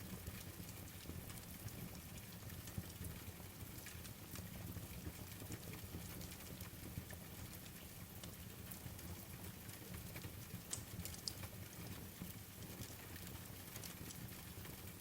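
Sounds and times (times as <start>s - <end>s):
rain hiss with low rumble: 0.0s - 15.0s.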